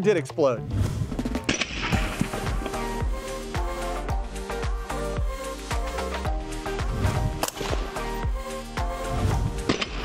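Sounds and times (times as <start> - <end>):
electronic music with beat: 1.2 - 10.0.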